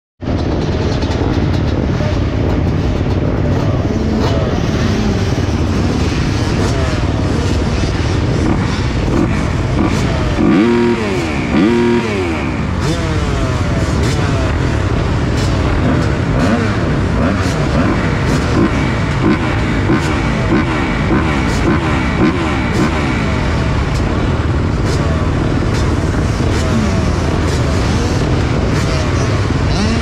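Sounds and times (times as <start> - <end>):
dirt bike engines idling: 0.2 - 30.0
loud engine rev blips: 0.2 - 30.0.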